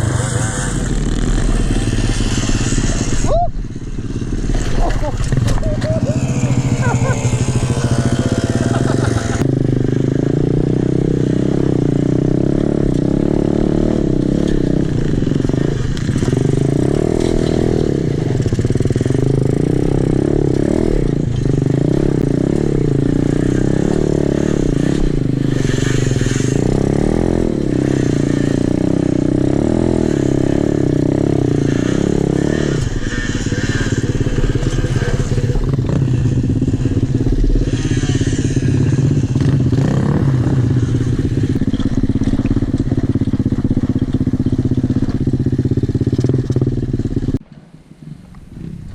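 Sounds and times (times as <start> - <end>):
pit bike engine revving: 0.0 - 47.4.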